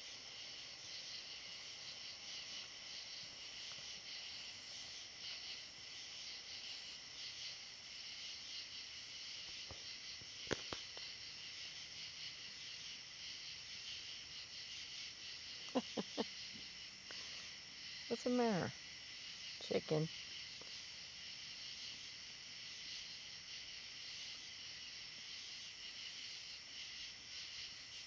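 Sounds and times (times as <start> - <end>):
night insects chorus: 0.0 - 28.0.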